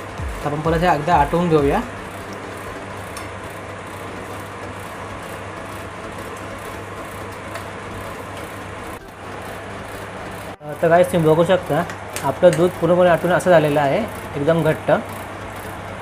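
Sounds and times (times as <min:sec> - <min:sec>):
milk cooking hiss and hum: 0:00.0 - 0:16.0.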